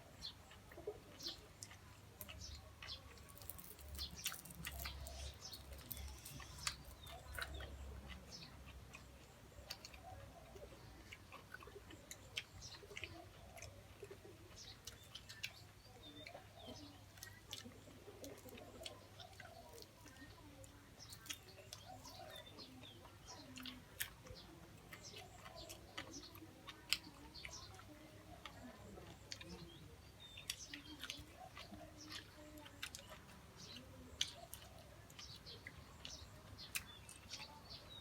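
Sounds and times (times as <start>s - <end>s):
chewing and crunching: 0.0s - 38.0s.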